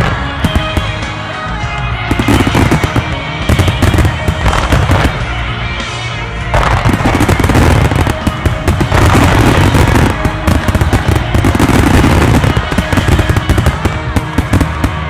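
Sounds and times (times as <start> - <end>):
fireworks bursting and crackling: 0.0 - 15.0
pop song playing: 0.0 - 15.0.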